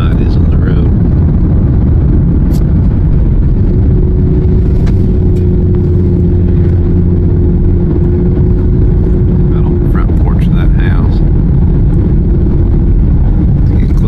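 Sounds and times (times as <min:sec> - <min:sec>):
car driving cabin rumble: 0:00.0 - 0:14.0
steady hum: 0:00.0 - 0:14.0.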